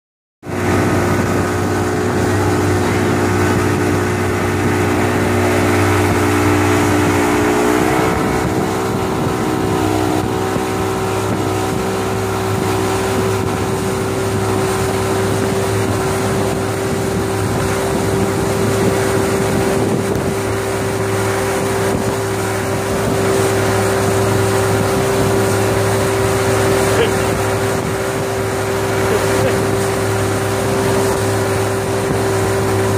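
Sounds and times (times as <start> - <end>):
motorboat engine running: 0.4 - 32.9
wind noise on microphone: 0.5 - 32.9.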